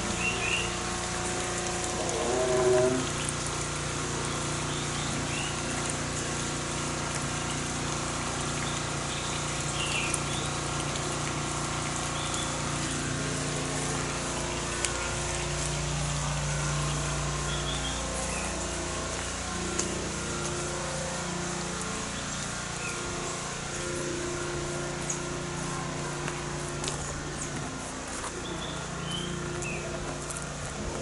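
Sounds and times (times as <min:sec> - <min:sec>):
mechanical hum: 0:00.0 - 0:31.0.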